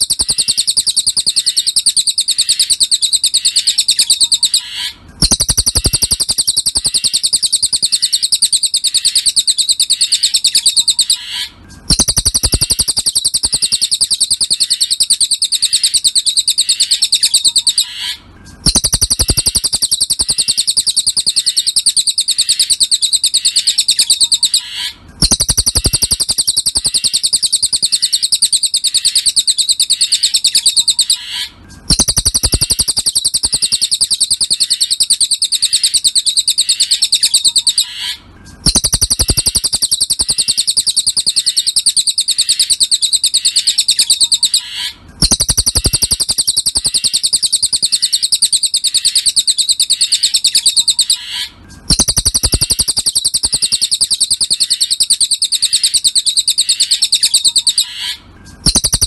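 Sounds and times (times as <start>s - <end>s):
bird chirping trill: 0.0s - 59.0s.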